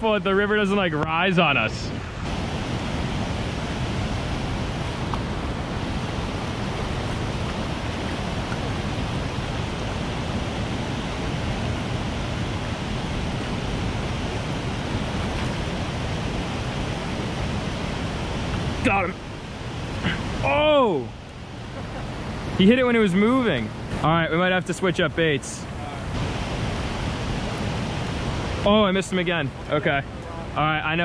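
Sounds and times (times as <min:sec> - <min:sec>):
river water rushing over rocks: 0:00.4 - 0:31.0.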